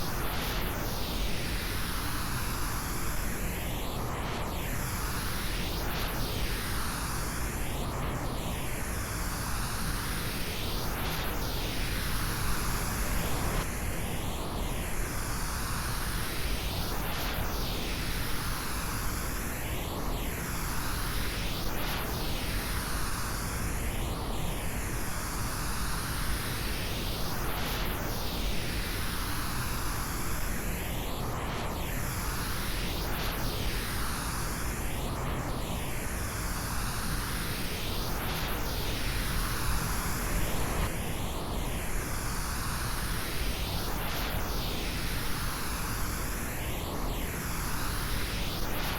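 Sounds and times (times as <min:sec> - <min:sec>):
circling pink noise: 0:00.0 - 0:48.9.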